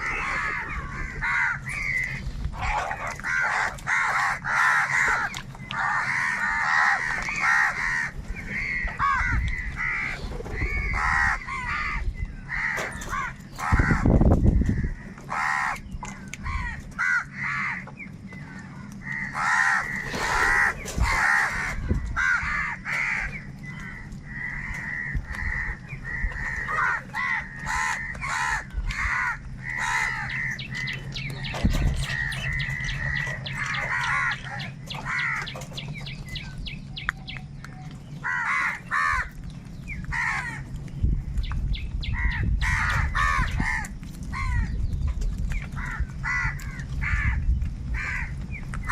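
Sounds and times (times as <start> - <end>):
crows cawing: 0.0 - 36.7, 38.2 - 40.7, 42.0 - 44.8, 45.7 - 48.9.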